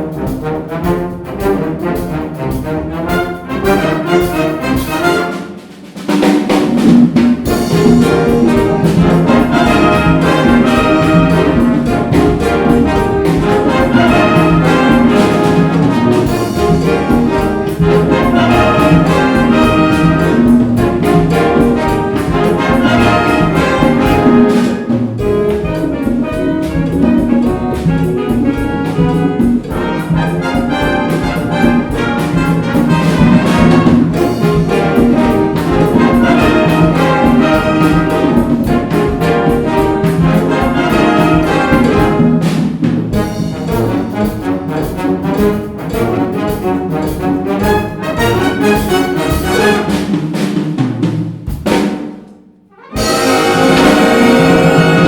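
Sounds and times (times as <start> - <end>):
trumpets and trombones: 0.0 - 50.6, 52.7 - 55.0
concert band playing: 0.0 - 55.0
percussion rhythm: 0.0 - 55.0.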